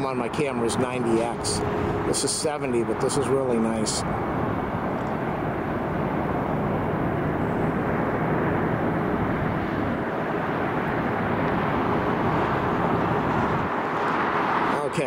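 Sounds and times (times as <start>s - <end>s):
faint steady whine: 0.0s - 14.0s
jet engine rumble: 0.0s - 15.0s.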